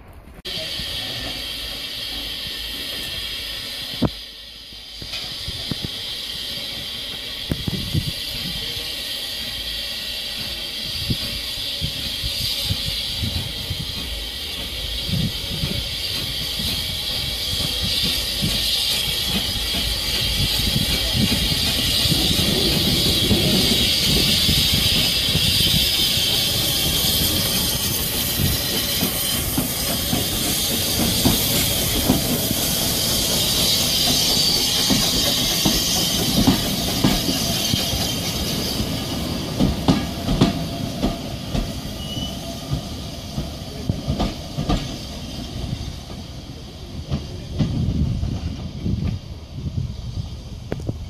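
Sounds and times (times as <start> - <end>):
train wheels rumbling on rails: 0.0 - 51.0
steam hissing: 0.4 - 51.0.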